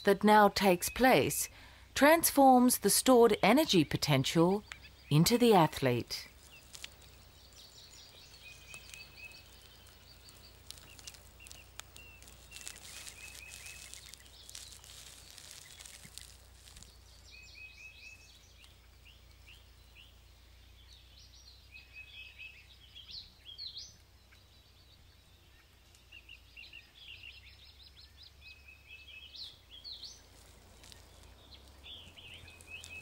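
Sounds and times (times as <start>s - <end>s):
small birds chirping and trilling: 3.8s - 33.0s.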